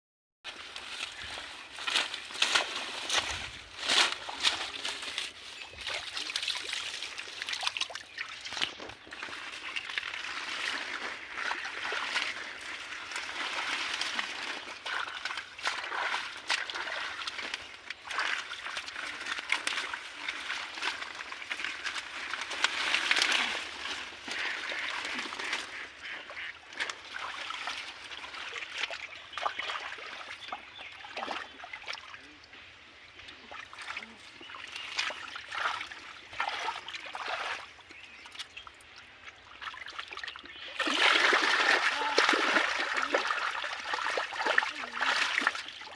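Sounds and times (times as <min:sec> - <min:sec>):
water splashing and sloshing: 0:00.5 - 0:45.9
wet rustling of water plants: 0:00.5 - 0:45.9.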